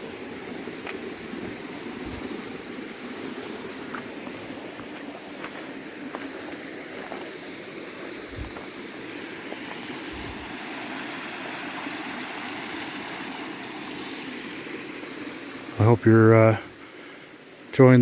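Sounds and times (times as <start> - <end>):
river water flowing over rocks: 0.0 - 18.0.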